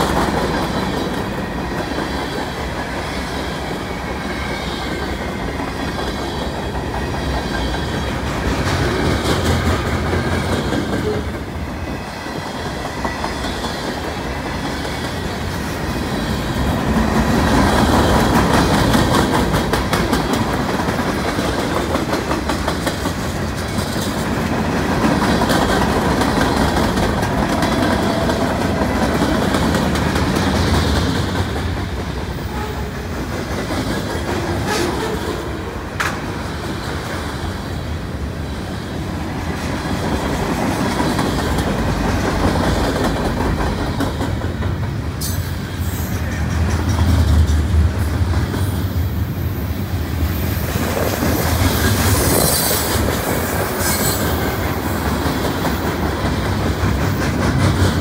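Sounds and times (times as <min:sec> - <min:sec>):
freight train wheels clattering on rails: 0:00.0 - 0:58.0.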